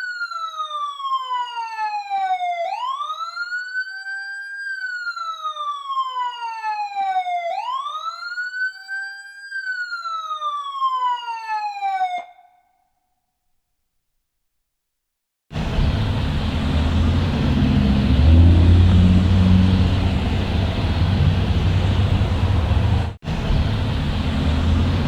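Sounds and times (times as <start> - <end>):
emergency vehicle siren wailing: 0.0 - 12.6, 15.5 - 25.0.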